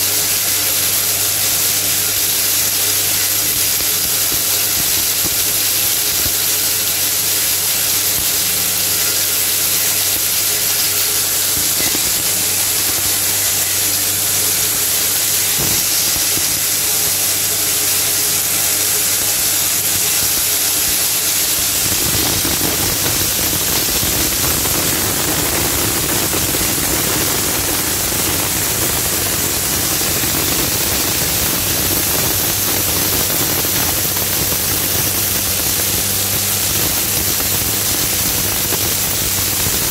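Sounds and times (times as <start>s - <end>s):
grinding machine hiss: 0.0s - 39.9s.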